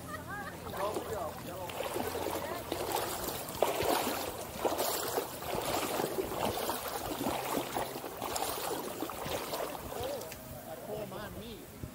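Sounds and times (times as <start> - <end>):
lake water lapping and sloshing: 0.0 - 11.2.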